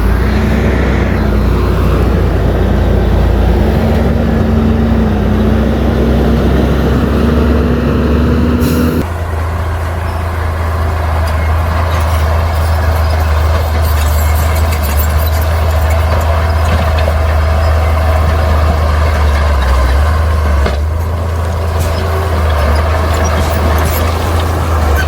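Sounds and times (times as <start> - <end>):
diesel machinery rumbling: 0.0 - 25.0.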